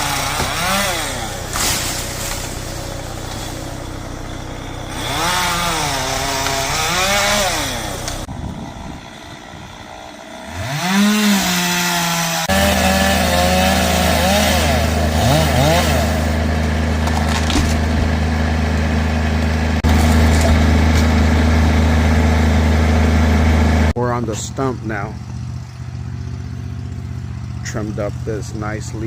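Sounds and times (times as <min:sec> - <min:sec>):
chainsaw revving: 0:00.0 - 0:24.0
engine droning: 0:00.0 - 0:29.0.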